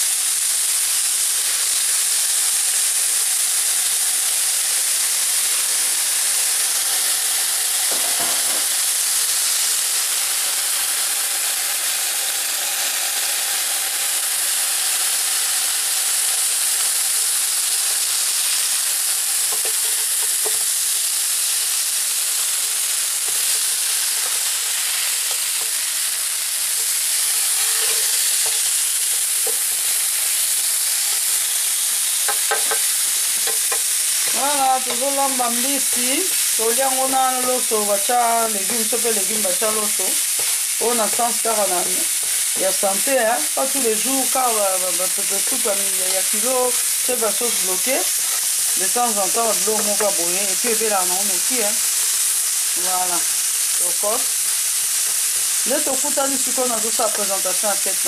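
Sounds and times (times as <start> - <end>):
fish sizzling on grill plate: 0.0 - 58.0.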